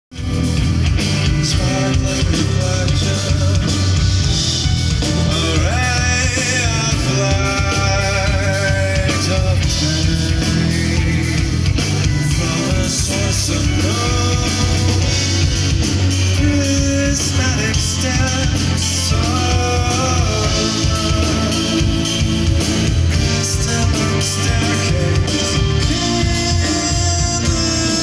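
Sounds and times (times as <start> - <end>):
electric bass guitar: 0.1 - 28.0
keyboards: 0.1 - 28.0
person singing: 1.2 - 4.4, 5.0 - 28.0.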